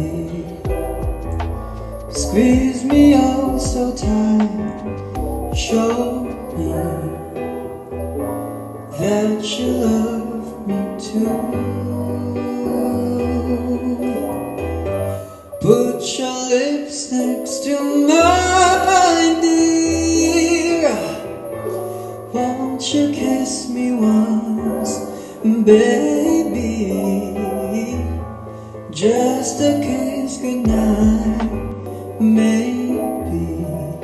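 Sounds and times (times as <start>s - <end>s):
man singing into microphone: 0.0s - 1.2s, 2.1s - 7.8s, 8.9s - 28.2s, 28.9s - 34.0s
backing track with bass and keyboard: 0.0s - 34.0s.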